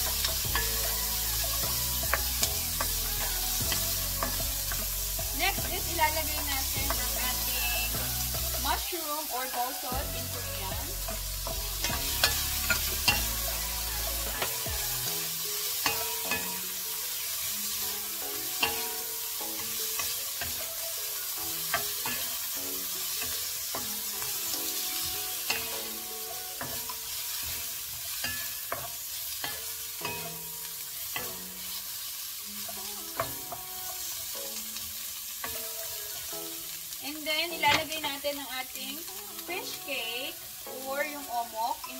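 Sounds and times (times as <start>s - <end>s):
vegetables sizzling in a wok: 0.0s - 41.9s.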